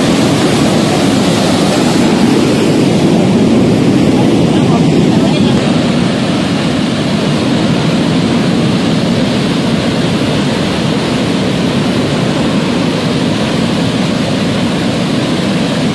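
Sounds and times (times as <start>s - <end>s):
floodwater rushing: 0.0s - 15.9s.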